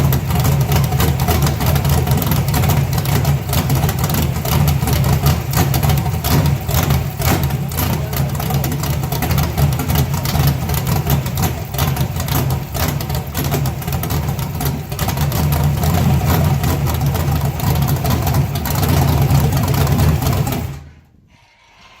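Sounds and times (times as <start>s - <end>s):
car engine idling roughly: 0.0s - 21.0s.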